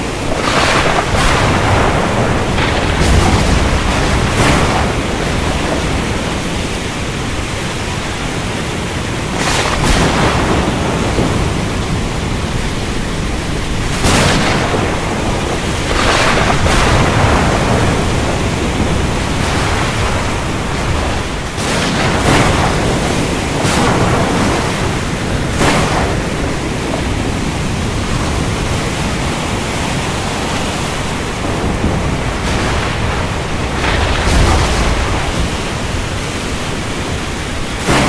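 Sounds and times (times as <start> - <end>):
ocean noise: 0.0 - 38.0
rain: 0.0 - 38.0
thunder rumble: 0.0 - 38.0.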